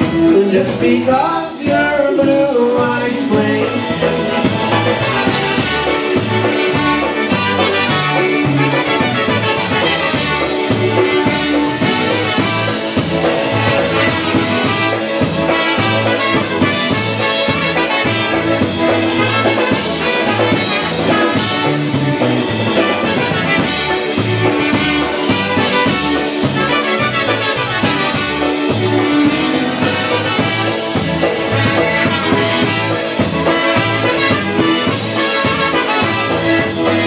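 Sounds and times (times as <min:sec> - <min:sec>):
brass horns melody: 0:00.0 - 0:37.0.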